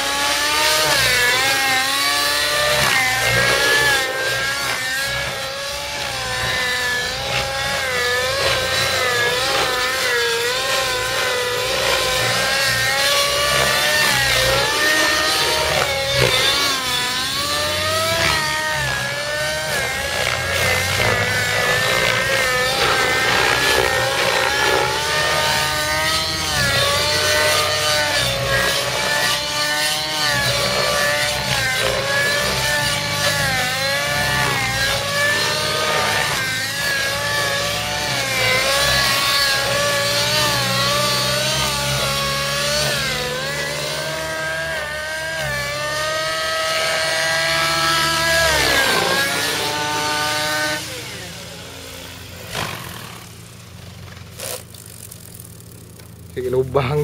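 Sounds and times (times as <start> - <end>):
model helicopter engine whine: 0.0 - 57.0.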